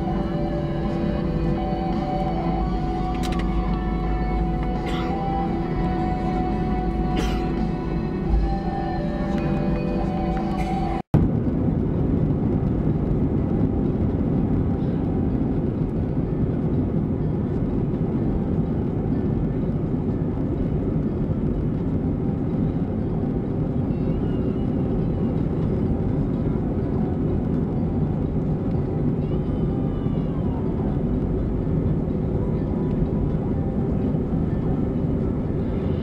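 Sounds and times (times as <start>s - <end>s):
jet engine hum in cabin: 0.0s - 36.0s.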